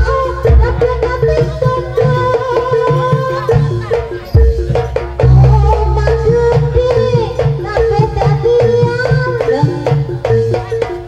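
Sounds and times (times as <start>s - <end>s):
drums beating busy rhythm: 0.0s - 11.0s
wavering melody: 0.0s - 11.0s.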